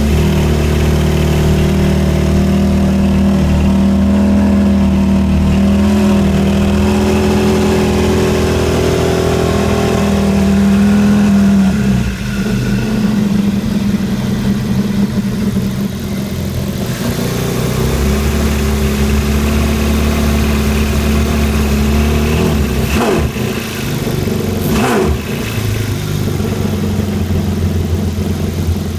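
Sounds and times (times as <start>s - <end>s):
personal watercraft engine running: 0.0s - 28.9s.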